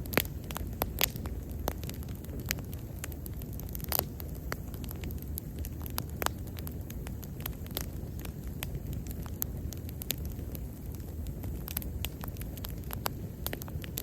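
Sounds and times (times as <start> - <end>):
fire crackling and popping: 0.0 - 14.0
low rumble of bonfire flame: 0.0 - 14.0.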